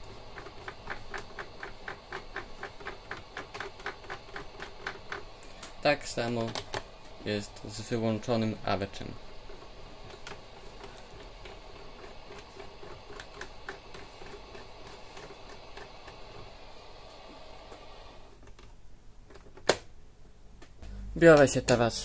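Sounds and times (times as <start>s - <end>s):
radio static hiss: 0.0s - 18.4s.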